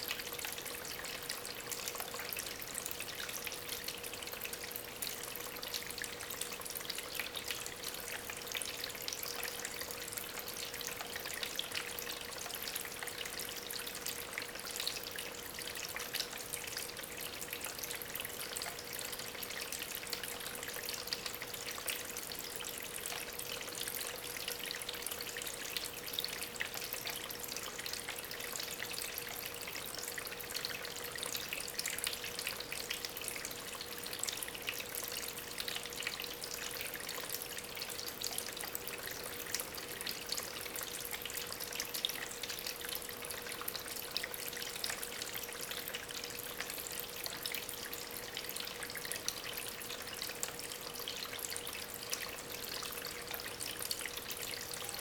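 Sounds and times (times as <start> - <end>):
water trickling over stones: 0.0 - 55.0.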